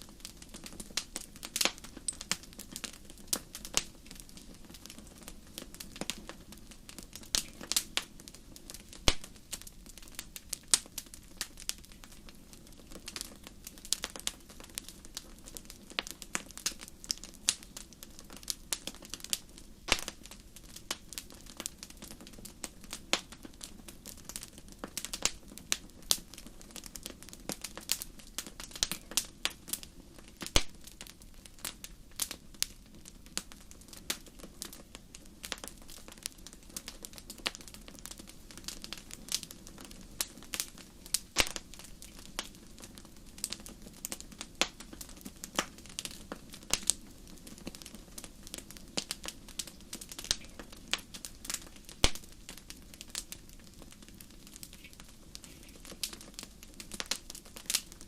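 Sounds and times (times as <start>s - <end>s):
fire popping and snapping: 0.0s - 58.0s
hiss of burning: 0.0s - 58.0s.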